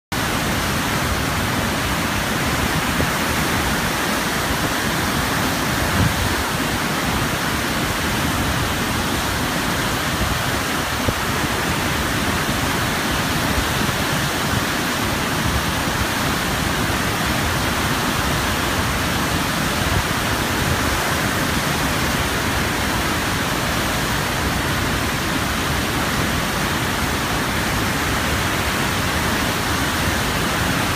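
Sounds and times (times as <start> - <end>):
whitewater churning and rushing: 0.1 - 30.9.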